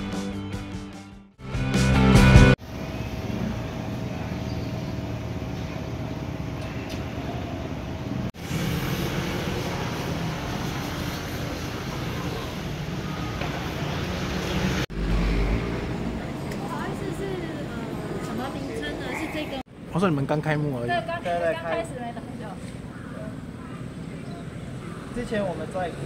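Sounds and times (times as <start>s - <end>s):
street traffic noise: 2.4s - 26.0s.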